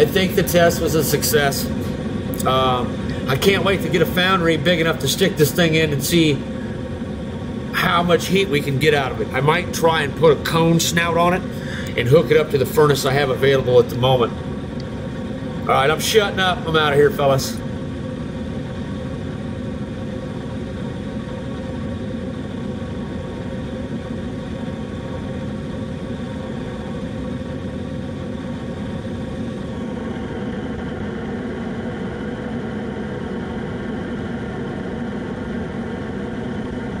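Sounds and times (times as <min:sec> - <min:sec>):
blower motor steady tones: 0:00.0 - 0:37.0.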